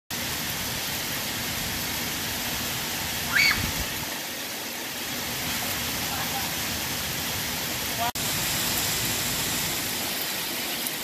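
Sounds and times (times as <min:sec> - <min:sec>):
heavy rain pouring: 0:00.1 - 0:11.0.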